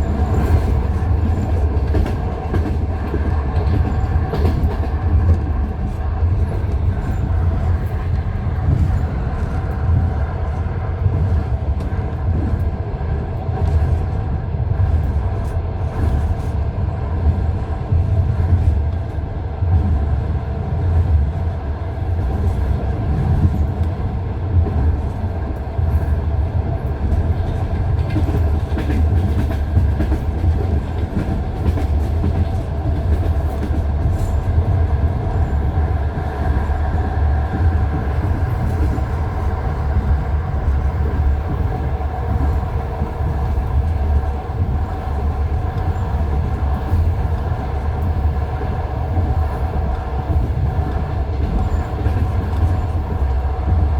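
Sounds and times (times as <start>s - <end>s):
train low rumble: 0.0s - 53.9s.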